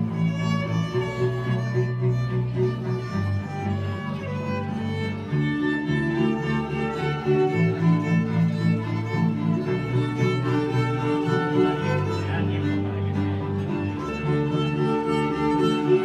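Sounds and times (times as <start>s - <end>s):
electric violin melody: 0.0s - 16.0s.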